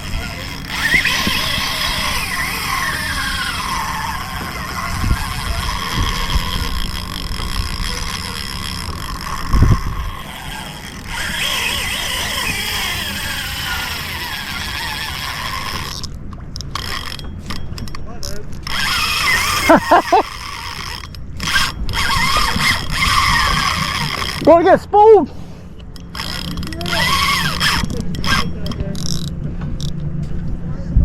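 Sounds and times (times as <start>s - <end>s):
fishing reel grinding and squealing: 0.0s - 25.1s, 25.7s - 30.0s.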